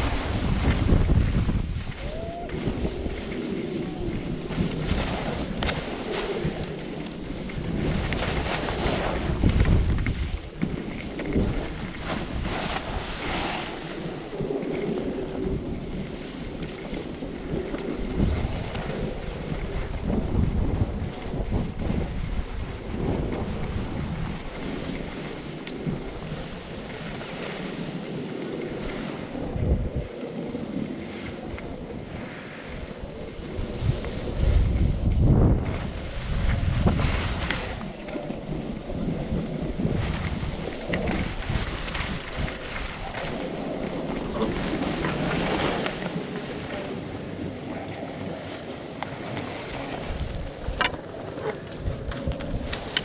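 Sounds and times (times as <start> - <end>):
skis scraping over snow: 0.0 - 53.0
wind buffeting microphone: 0.0 - 53.0.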